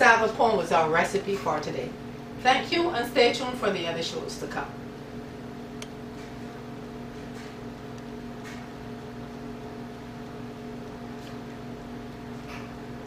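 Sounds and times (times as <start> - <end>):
steady tonal hum: 0.0 - 12.2.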